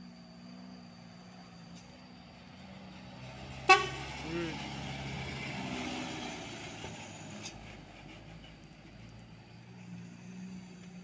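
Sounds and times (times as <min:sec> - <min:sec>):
diesel truck engine driving past: 0:00.0 - 0:11.0.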